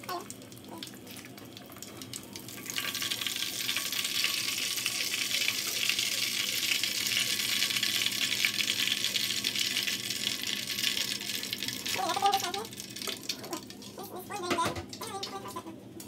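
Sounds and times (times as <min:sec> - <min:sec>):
hot oil sizzling and crackling: 0:00.0 - 0:14.2.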